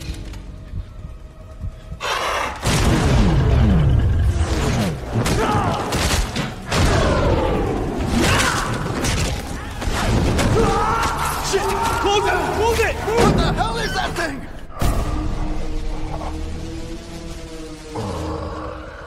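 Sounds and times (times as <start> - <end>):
film music: 0.0 - 19.0.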